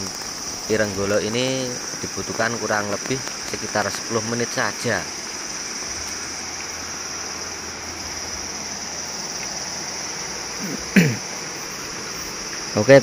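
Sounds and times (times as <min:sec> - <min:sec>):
forest ambience hiss: 0:00.0 - 0:13.0
insect chorus drone: 0:00.0 - 0:13.0.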